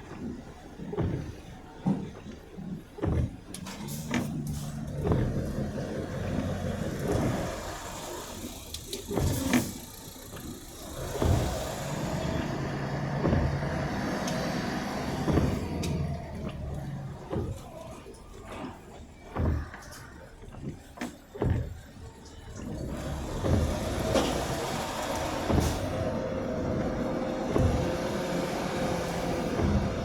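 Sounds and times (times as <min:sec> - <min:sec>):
knocks and clunks: 0:00.0 - 0:30.0
car engine humming: 0:03.8 - 0:19.6, 0:21.4 - 0:30.0.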